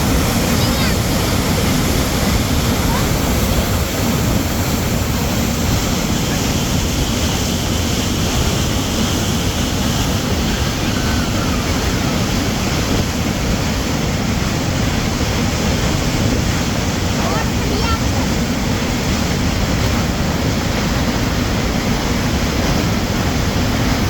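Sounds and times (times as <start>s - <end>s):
spring water gushing: 0.0s - 24.0s.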